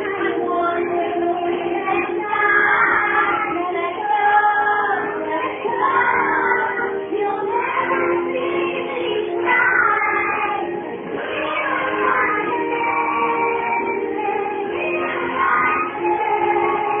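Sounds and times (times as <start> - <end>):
backing music: 0.0 - 17.0
woman and children singing: 0.0 - 17.0.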